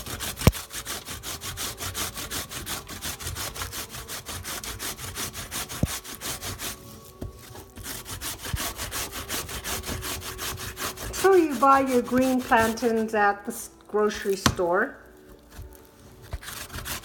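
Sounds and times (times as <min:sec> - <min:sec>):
grating on metal grater: 0:00.0 - 0:13.2, 0:15.2 - 0:17.0.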